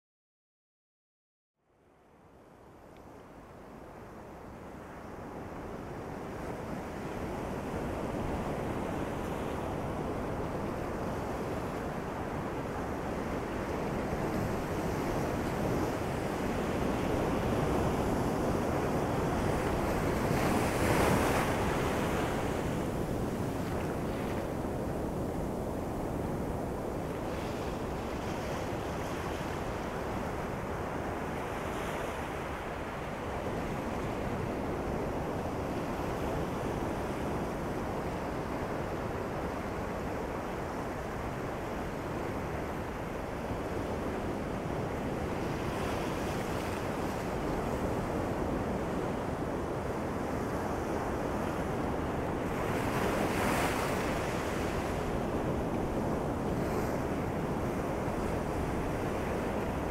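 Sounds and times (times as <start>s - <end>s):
ocean waves washing up beach: 5.7s - 59.9s.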